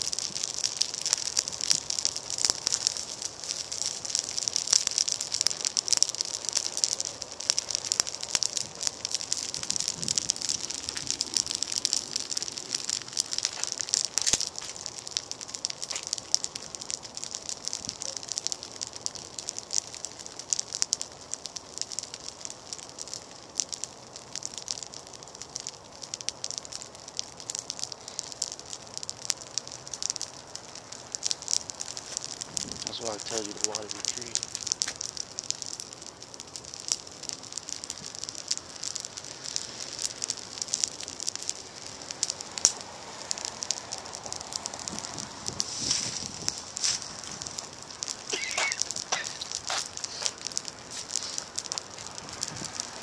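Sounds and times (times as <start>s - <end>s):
wreath burning crackling and hissing: 0.0s - 53.0s.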